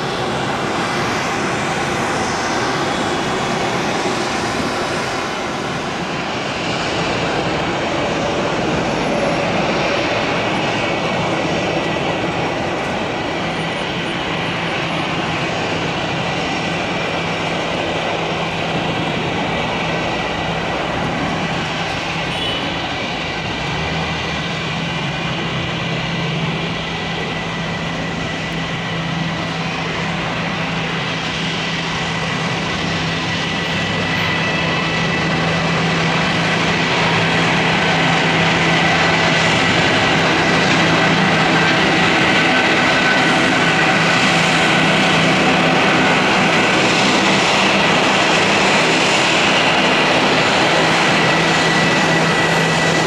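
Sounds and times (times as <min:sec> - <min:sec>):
jet engines roaring with whine: 0:00.0 - 0:53.0.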